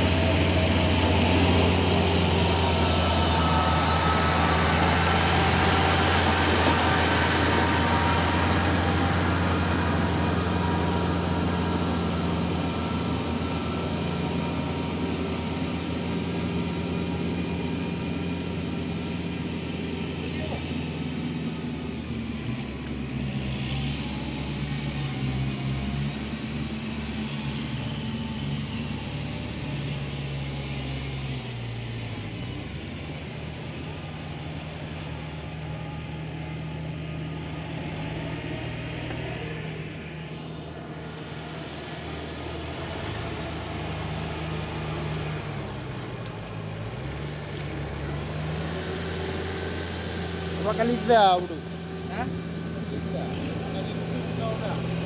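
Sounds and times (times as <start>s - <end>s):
tractor diesel engines running: 0.0s - 55.0s.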